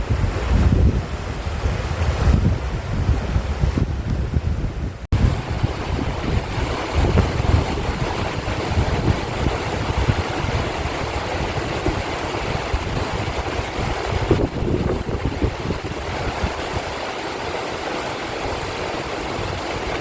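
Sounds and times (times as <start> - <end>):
stream rushing: 0.0 - 20.0
wind buffeting microphone: 0.0 - 20.0.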